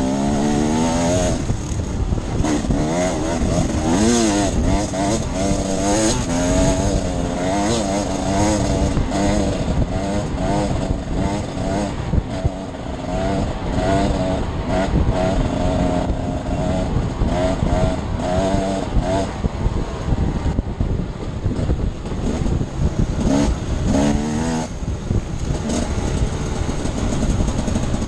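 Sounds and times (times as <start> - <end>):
dirt bike engine revving: 0.0 - 20.6, 21.5 - 28.0.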